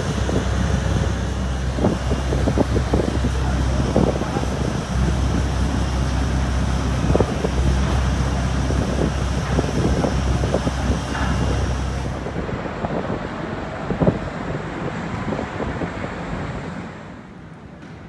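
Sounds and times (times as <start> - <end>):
low hum: 0.0 - 16.6.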